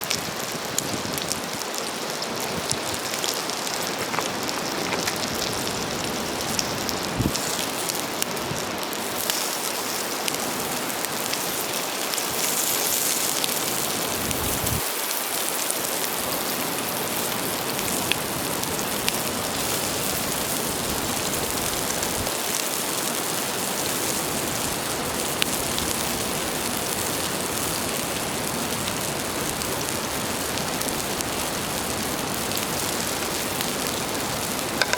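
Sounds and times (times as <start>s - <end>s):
food sizzling on griddle: 0.0s - 34.9s.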